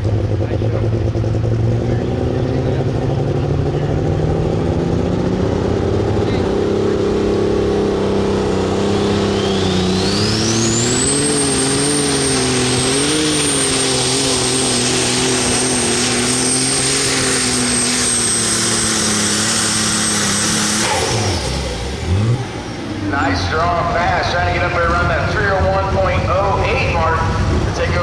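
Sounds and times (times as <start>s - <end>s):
diesel engine running hard: 0.0s - 28.0s
high turbo whine: 0.0s - 28.0s.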